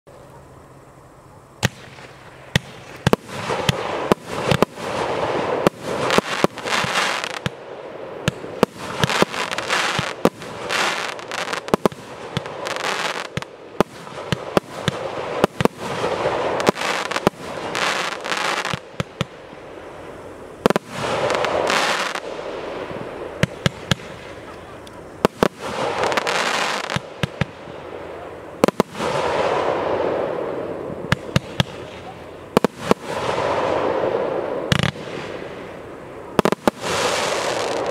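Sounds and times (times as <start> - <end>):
crackling hiss of firework stars: 0.1 - 37.9.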